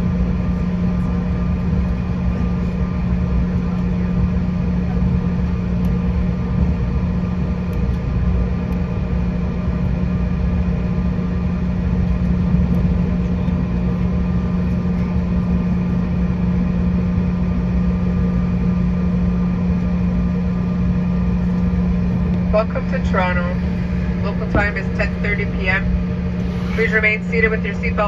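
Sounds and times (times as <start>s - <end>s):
airliner cabin engine drone: 0.0s - 28.0s.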